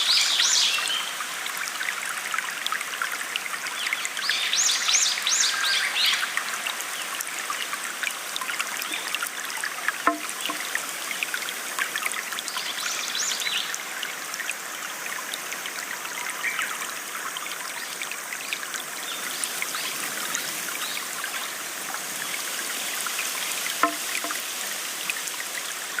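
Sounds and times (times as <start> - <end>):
stream flowing and trickling: 0.0 - 26.0
small water splashes: 0.9 - 26.0.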